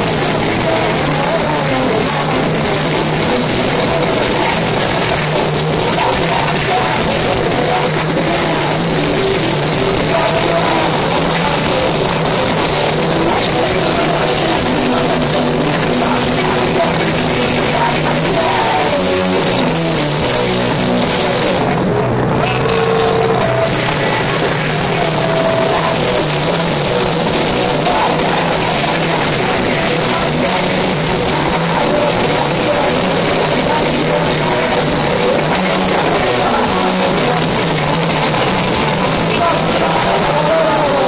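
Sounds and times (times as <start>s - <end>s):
distorted electric guitar: 0.0s - 41.0s
drums: 0.0s - 41.0s.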